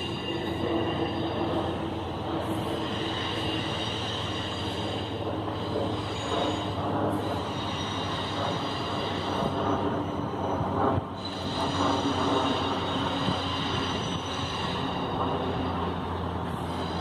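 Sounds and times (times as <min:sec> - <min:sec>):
freight train rumbling on rails: 0:00.0 - 0:17.0
high wheel squeal: 0:00.0 - 0:17.0.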